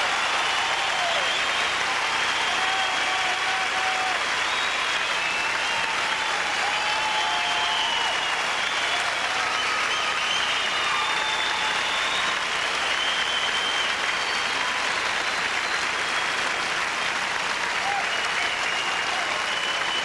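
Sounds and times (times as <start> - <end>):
audience applauding: 0.0 - 20.0
high whistles: 0.3 - 2.8, 4.4 - 6.0, 6.7 - 16.6, 18.0 - 20.0.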